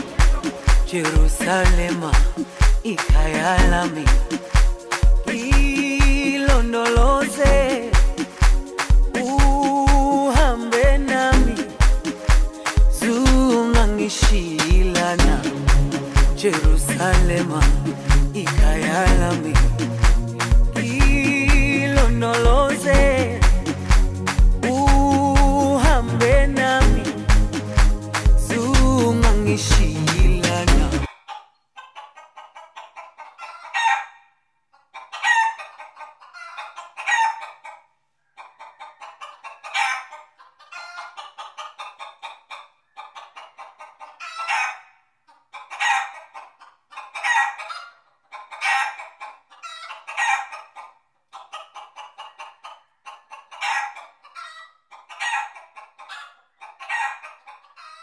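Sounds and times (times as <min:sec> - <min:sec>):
chickens clucking and cackling: 0:00.0 - 0:58.0.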